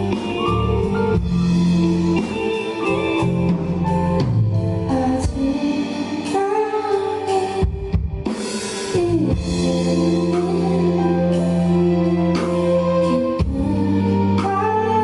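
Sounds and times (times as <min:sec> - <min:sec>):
drum kit playing: 0:00.0 - 0:15.0
electric guitar: 0:00.0 - 0:15.0.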